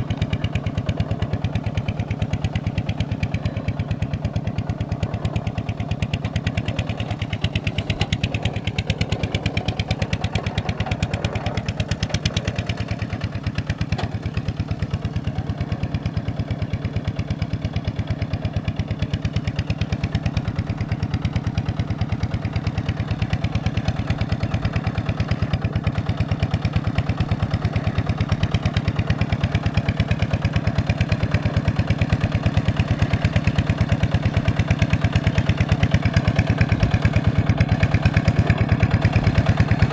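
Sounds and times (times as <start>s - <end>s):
diesel engine chugging at idle: 0.0s - 39.9s.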